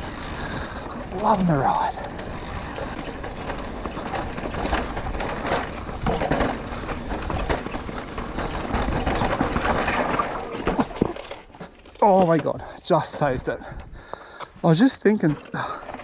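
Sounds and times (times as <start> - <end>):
bike knocking on rocks: 0.0 - 13.5
tyres rumbling over dirt: 0.0 - 13.8
bike rattling: 0.0 - 14.2, 14.8 - 16.0.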